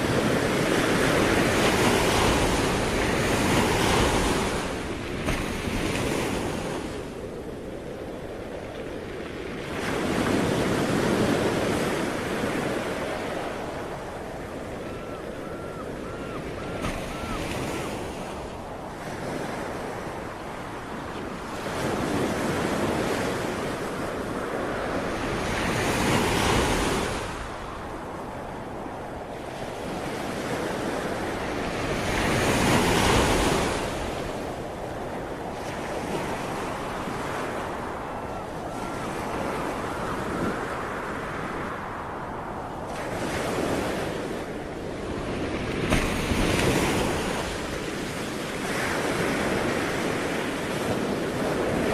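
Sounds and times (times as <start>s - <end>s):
ocean waves washing onto shore: 0.0s - 51.9s.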